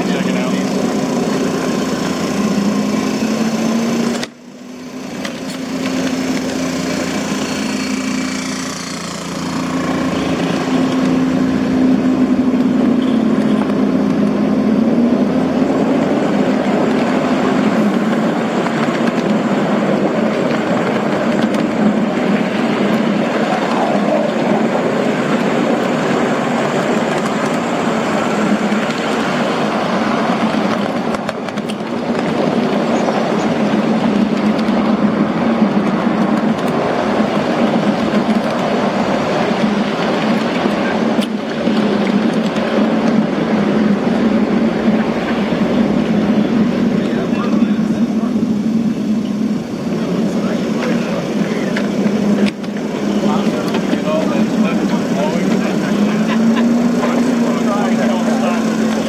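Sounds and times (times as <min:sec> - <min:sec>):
model locomotive engine hum: 0:00.0 - 0:59.0.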